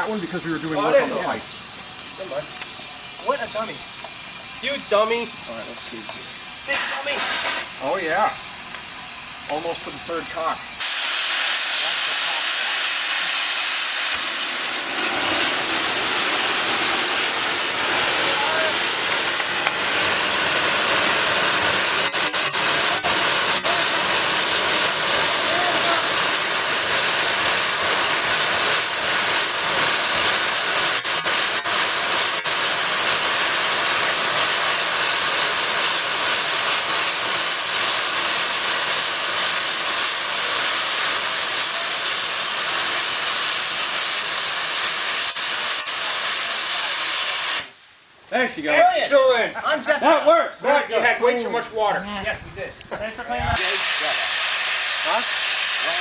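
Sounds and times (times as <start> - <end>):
steam hissing from boiler: 0.0 - 56.0.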